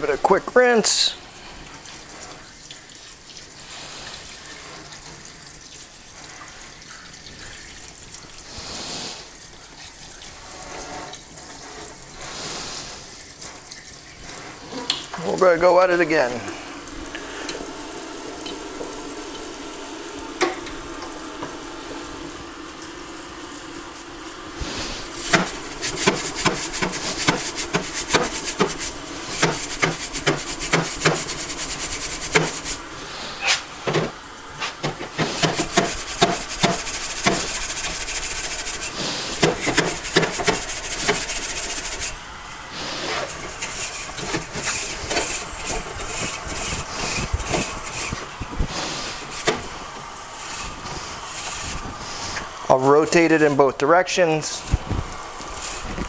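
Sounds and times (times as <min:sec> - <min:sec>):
faucet running into steel sink: 0:00.0 - 0:56.0
brushes scrubbing metal cylinder: 0:10.2 - 0:56.0.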